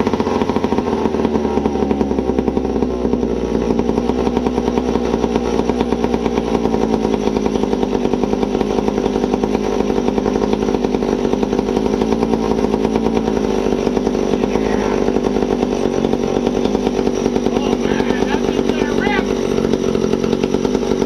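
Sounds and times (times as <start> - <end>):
chainsaw engine running: 0.0 - 21.0.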